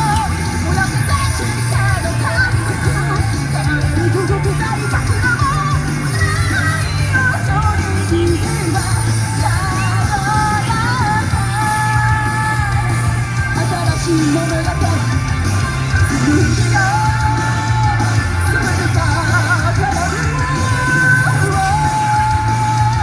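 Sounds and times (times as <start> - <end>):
rock band with heavy bass: 0.0 - 23.0.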